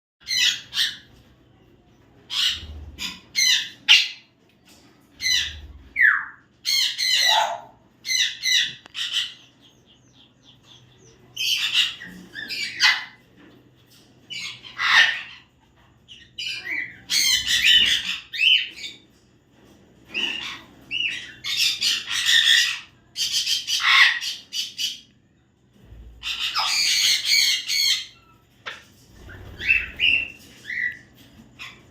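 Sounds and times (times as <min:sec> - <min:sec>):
parrots squawking: 0:00.2 - 0:01.2, 0:02.3 - 0:04.3, 0:05.0 - 0:09.8, 0:10.4 - 0:19.1, 0:20.0 - 0:25.1, 0:26.1 - 0:31.9.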